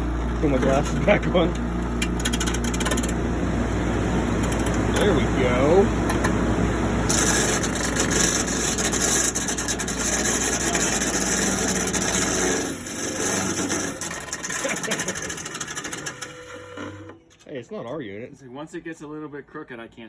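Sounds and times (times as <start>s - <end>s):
rattling buzz: 0.0s - 17.5s
window air conditioner humming: 0.0s - 19.6s.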